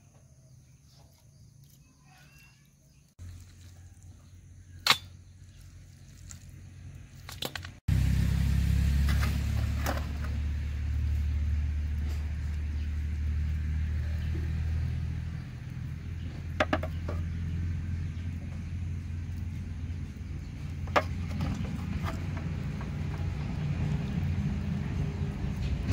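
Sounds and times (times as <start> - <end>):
low motor rumble: 3.2 - 25.9.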